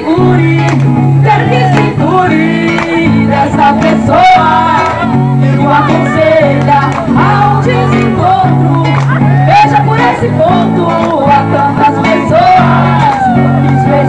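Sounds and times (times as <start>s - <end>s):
guitar: 0.0s - 14.0s
low bass line: 0.0s - 14.0s
person singing: 0.0s - 14.0s.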